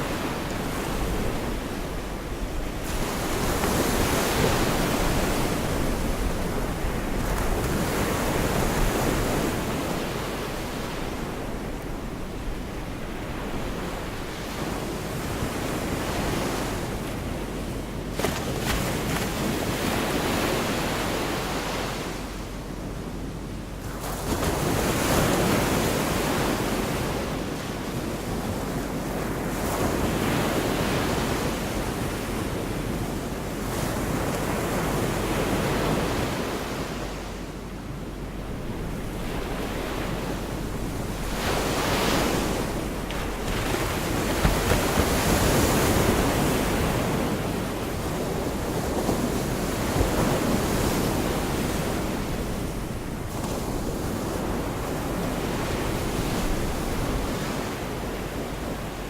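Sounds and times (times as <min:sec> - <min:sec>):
waves breaking on a beach: 0:00.0 - 0:59.0
wind rumbling on microphone: 0:00.0 - 0:59.0.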